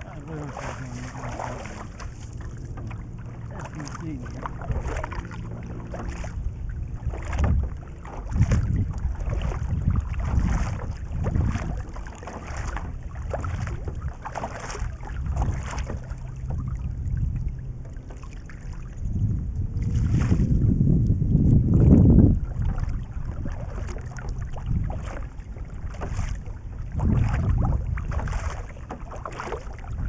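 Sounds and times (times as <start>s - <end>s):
low rumble: 0.0s - 28.4s
paddle splashing water: 0.0s - 30.0s.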